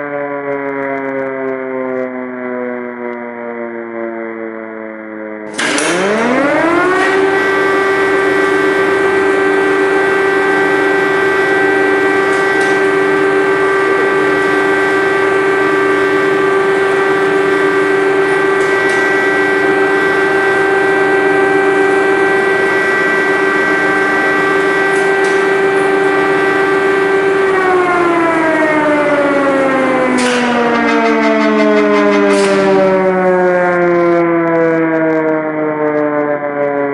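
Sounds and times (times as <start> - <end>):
air-raid siren wailing: 0.0 - 36.9
second siren tone: 0.0 - 36.9.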